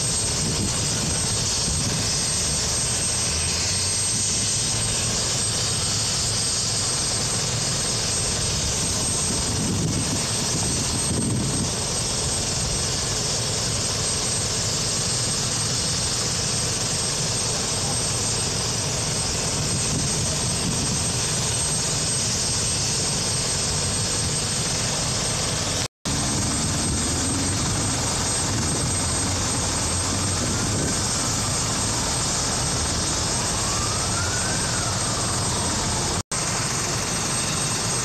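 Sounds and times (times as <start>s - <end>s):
helicopter turbine engines running: 0.0s - 38.0s.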